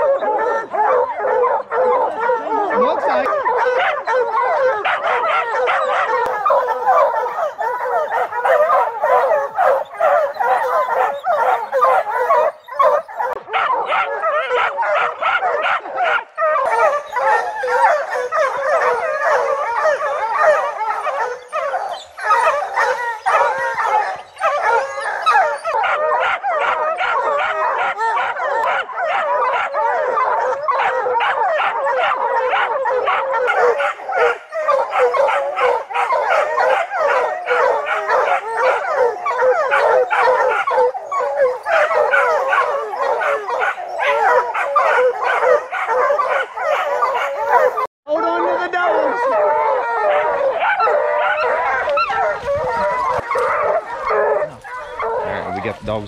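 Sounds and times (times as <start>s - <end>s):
hounds barking and howling: 0.0s - 56.0s.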